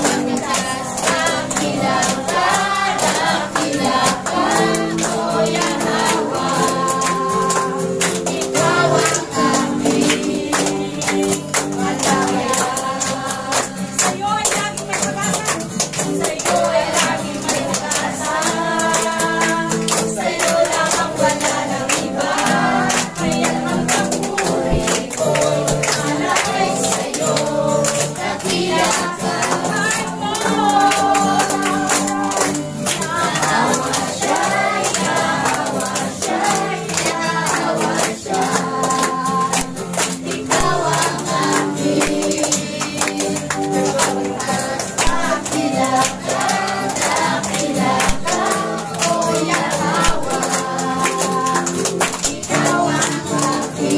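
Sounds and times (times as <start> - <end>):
congregation singing a praise song: 0.0 - 53.9
hands clapping: 0.0 - 53.9.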